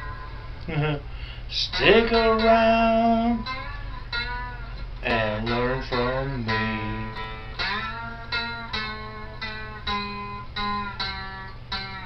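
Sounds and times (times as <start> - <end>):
plucked guitar notes: 0.0 - 0.9, 1.5 - 12.0.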